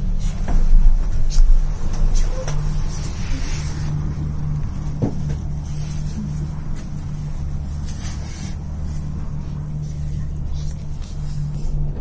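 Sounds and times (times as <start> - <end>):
gondola cabin mechanical hum: 0.0 - 12.0.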